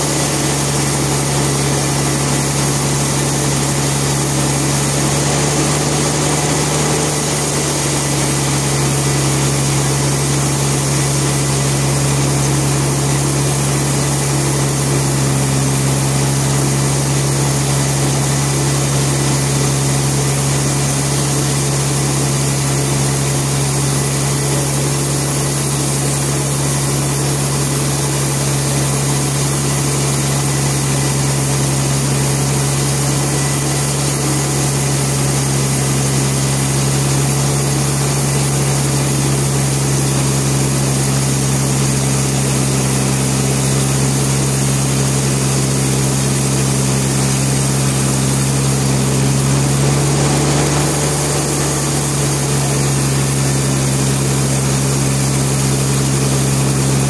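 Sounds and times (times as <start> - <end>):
sawmill machinery droning: 0.0 - 57.0.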